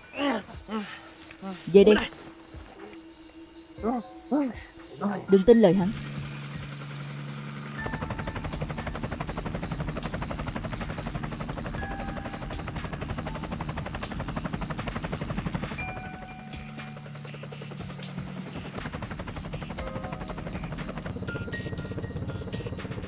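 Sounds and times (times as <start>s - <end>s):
helicopter rotor chopping: 0.4s - 23.0s.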